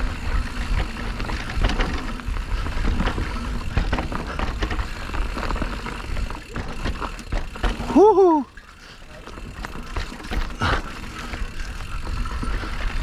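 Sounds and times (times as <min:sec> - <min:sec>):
bike knocking and rattling: 0:00.0 - 0:13.0
tyres rumbling over dirt: 0:00.0 - 0:13.0.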